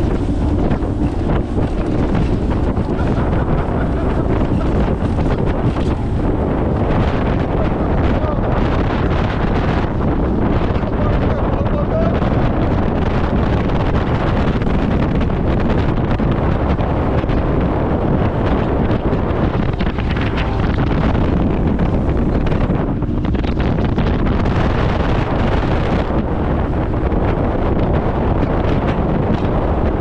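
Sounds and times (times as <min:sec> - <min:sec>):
boat motor: 0:00.0 - 0:30.0
water noise: 0:00.0 - 0:30.0
wind rushing over microphone: 0:00.0 - 0:30.0.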